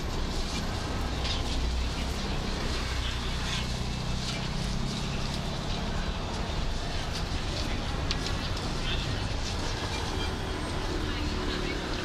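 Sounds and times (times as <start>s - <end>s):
market background noise: 0.0s - 12.0s.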